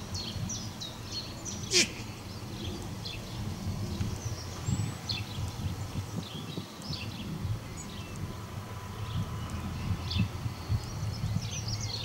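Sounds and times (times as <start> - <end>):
small birds chirping: 0.0 - 12.0
wind rumble: 0.0 - 12.0.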